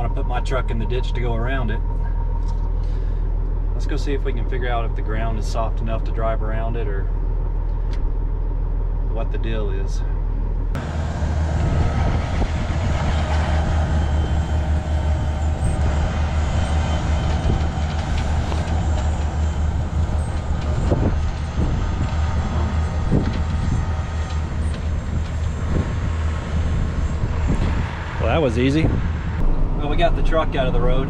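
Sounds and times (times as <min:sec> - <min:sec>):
truck engine droning: 0:00.0 - 0:31.0.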